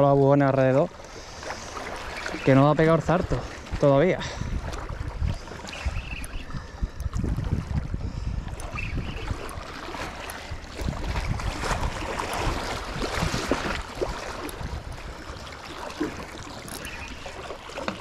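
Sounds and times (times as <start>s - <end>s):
wind buffeting microphone: 1.6s - 18.0s.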